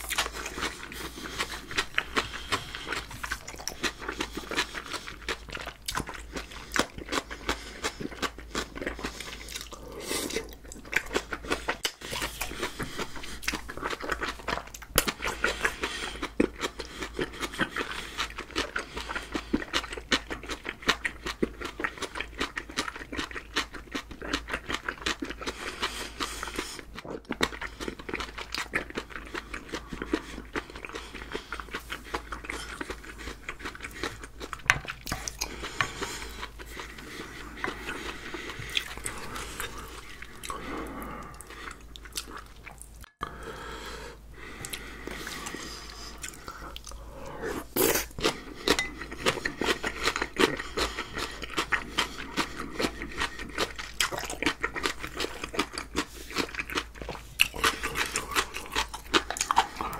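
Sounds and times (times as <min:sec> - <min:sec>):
person chewing with mouth clicks: 0:00.0 - 0:43.4, 0:44.4 - 0:59.9.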